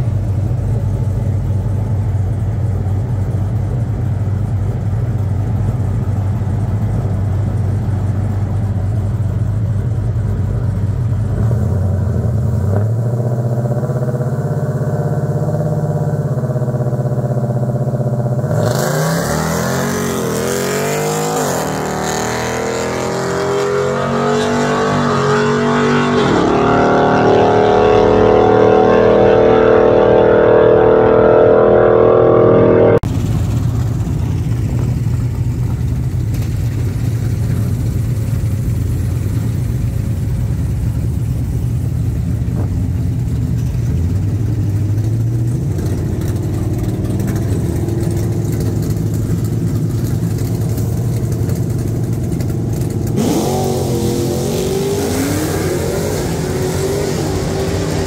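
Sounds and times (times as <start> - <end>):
vehicle engine idling and revving: 0.0 - 58.0
engine accelerating through gears: 8.5 - 58.0.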